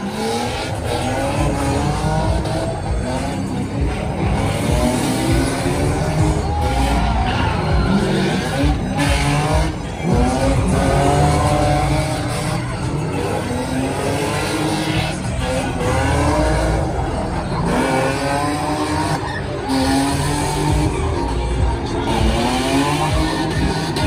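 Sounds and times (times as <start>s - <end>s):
car engines revving: 0.0s - 24.0s
tires squealing: 0.0s - 24.0s.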